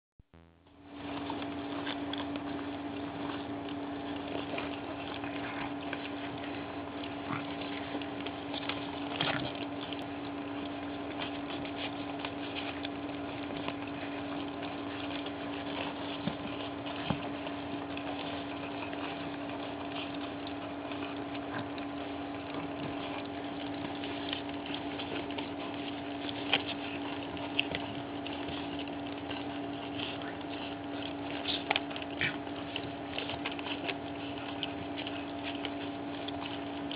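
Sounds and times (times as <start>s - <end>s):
low steady hum: 0.3s - 36.9s
puppies lapping wet food: 0.8s - 36.9s.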